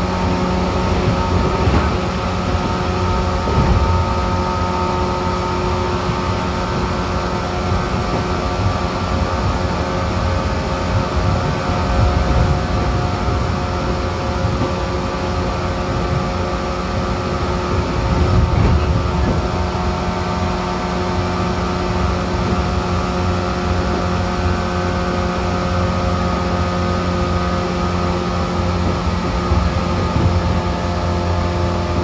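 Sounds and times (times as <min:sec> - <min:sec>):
train motors whining: 0:00.0 - 0:32.0
train wheels rumbling on rail: 0:00.0 - 0:32.0.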